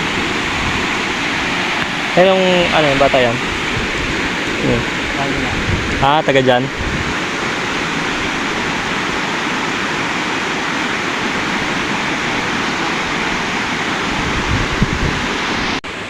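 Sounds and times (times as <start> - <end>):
water rushing at a dam: 0.0 - 16.0.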